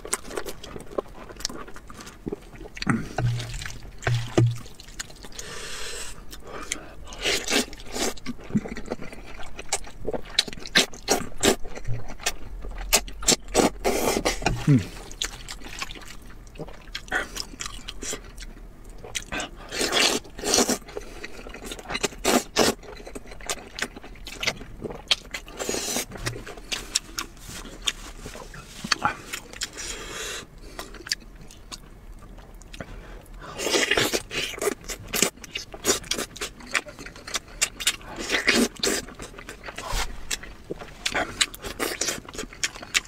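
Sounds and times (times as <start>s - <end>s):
wet chewing and mouth smacks: 0.0s - 5.4s, 6.3s - 29.9s, 33.6s - 43.0s.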